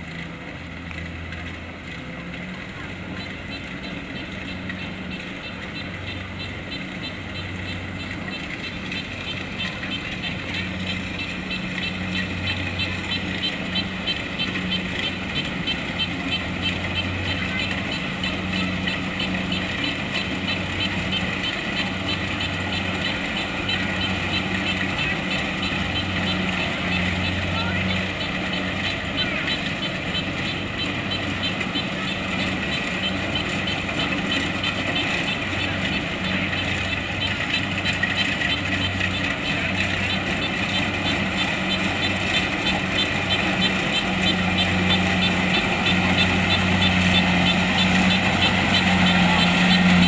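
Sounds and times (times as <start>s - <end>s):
diesel engine running: 0.0s - 50.0s
high ticking from machine: 3.2s - 50.0s.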